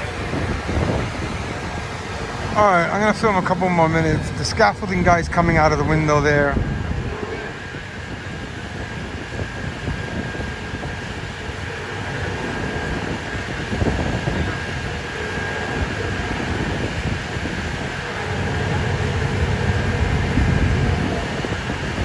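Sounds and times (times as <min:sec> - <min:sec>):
gusty wind buffeting microphone: 0:00.0 - 0:22.0
street noise: 0:00.0 - 0:22.0.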